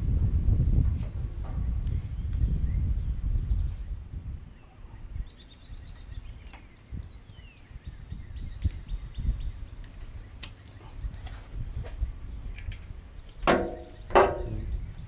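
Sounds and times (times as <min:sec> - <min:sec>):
birds chirping: 0:01.4 - 0:15.0.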